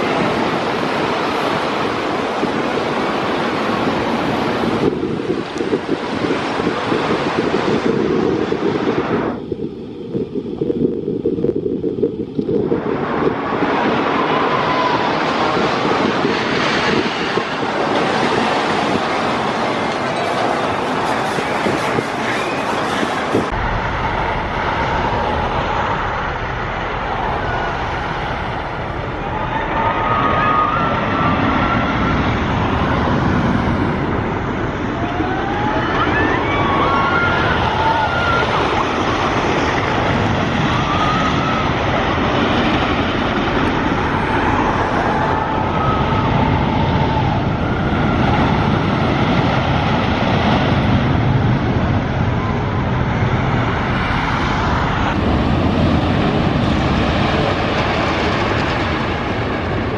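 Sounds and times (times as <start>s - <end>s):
roller coaster rumble: 0.0s - 59.9s
wind buffeting microphone: 0.0s - 59.9s.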